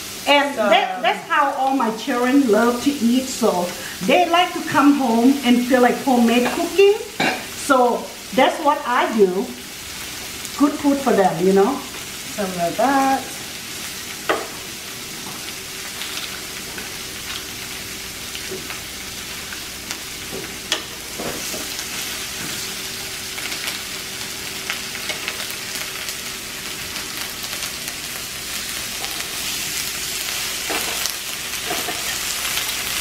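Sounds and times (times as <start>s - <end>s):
butter and vegetables sizzling: 0.0s - 33.0s.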